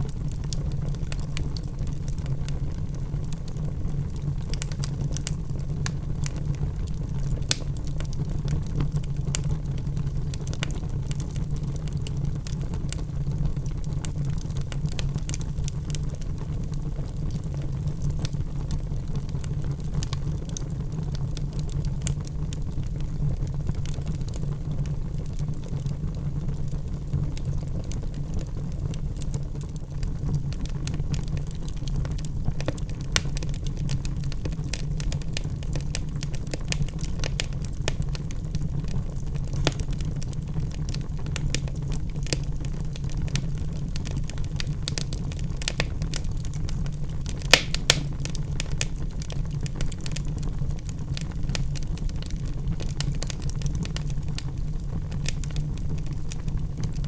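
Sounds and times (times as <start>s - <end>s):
logs crackling and popping: 0.0s - 57.0s
low fire rumble: 0.0s - 57.0s.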